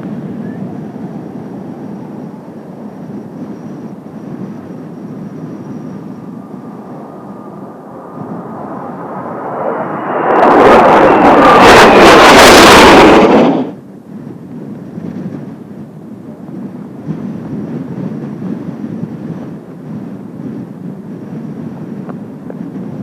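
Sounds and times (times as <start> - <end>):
gusty wind: 0.0 - 23.0
jet passing low overhead: 0.0 - 23.0.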